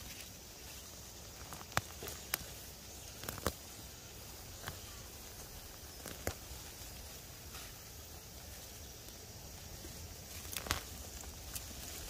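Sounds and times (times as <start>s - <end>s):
faint steady hiss: 0.0s - 12.0s
leafy plants snapping and rustling: 0.0s - 12.0s.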